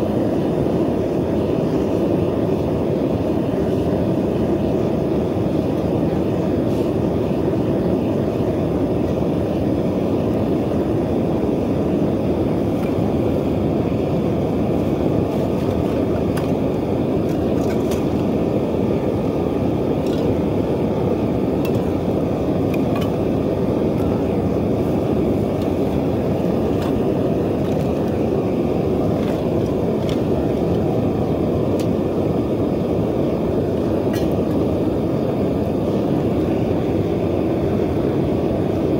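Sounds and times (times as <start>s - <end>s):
propane burner roaring: 0.0s - 38.9s.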